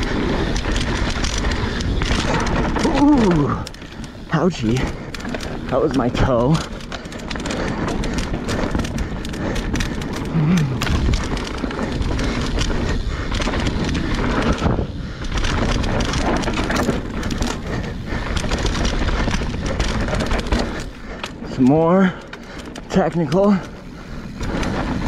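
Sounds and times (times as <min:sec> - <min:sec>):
bike rattling over bumps: 0:00.0 - 0:25.0
bike tyres rolling over dirt: 0:00.0 - 0:25.0.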